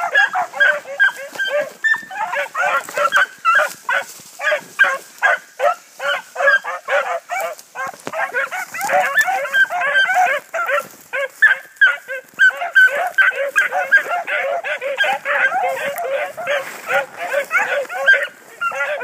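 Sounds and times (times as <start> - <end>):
hounds baying and yelping: 0.0 - 19.0.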